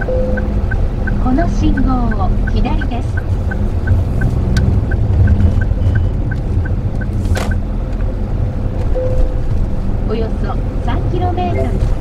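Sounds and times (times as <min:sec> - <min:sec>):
car engine and tyre rumble: 0:00.0 - 0:12.0
turn signal ticking: 0:00.0 - 0:12.0.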